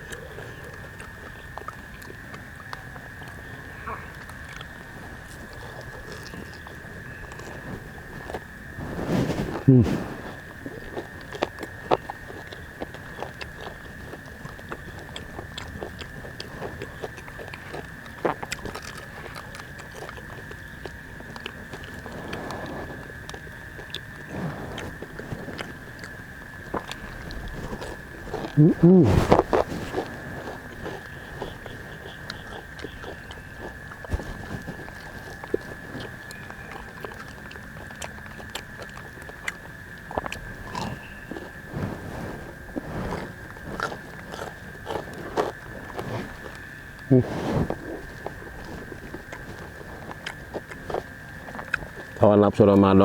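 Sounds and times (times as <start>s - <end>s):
crunchy chewing of fried food: 0.0s - 53.0s.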